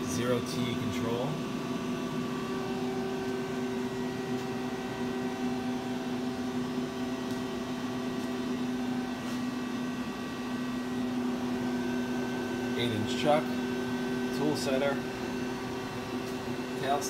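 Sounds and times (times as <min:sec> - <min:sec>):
machine electrical hum: 0:00.0 - 0:17.0.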